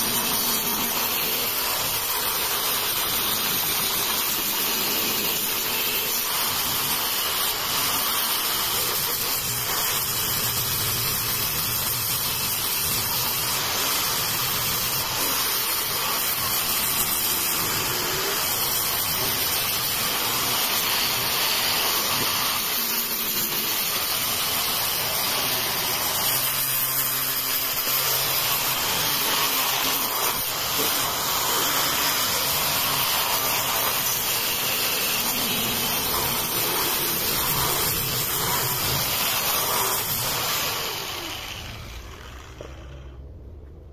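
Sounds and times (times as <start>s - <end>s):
angle grinder sanding wood: 0.0s - 43.2s.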